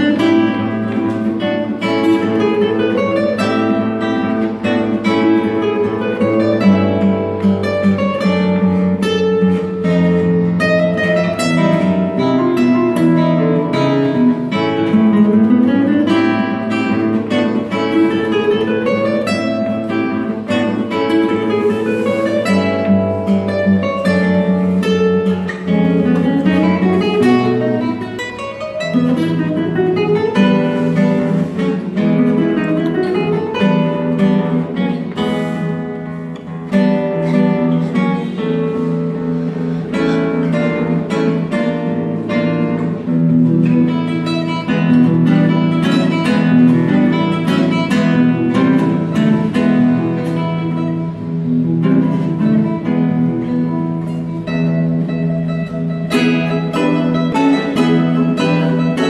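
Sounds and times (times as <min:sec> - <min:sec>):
classical guitar duet: 0:00.0 - 0:59.0.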